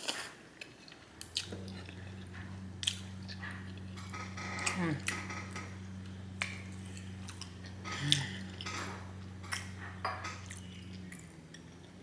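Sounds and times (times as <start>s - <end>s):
wet chewing and mouth smacks: 0.0s - 4.0s, 4.6s - 12.0s
low electrical hum: 0.0s - 12.0s.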